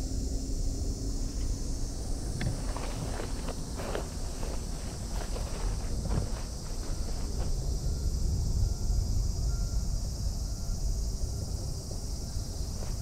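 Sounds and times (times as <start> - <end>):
high insect drone: 0.0 - 13.0
wind rumbling on microphone: 0.2 - 13.0.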